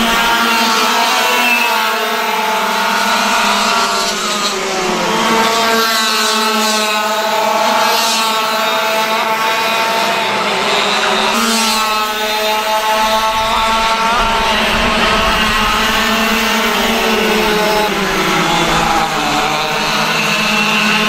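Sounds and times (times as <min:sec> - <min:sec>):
kart engines revving: 0:00.0 - 0:21.0.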